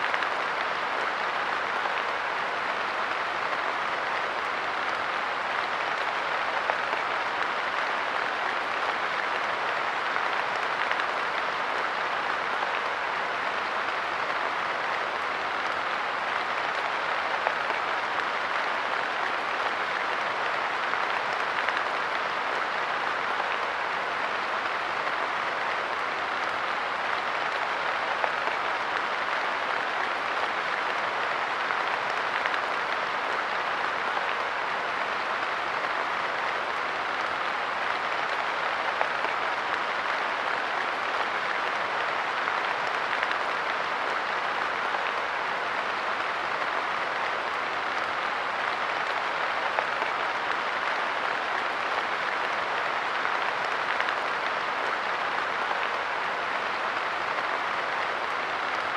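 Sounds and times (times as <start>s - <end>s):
light rain falling: 0.0s - 58.9s.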